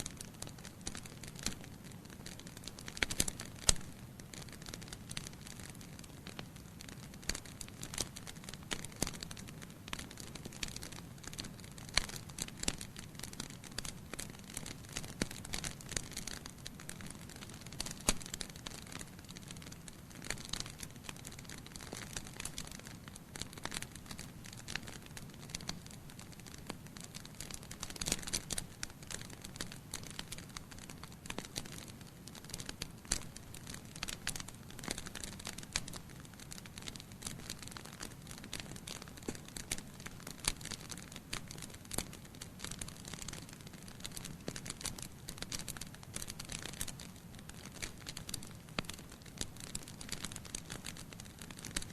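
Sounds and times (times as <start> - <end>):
low fire hiss: 0.0 - 51.9
wood fire crackling and popping: 0.0 - 51.9.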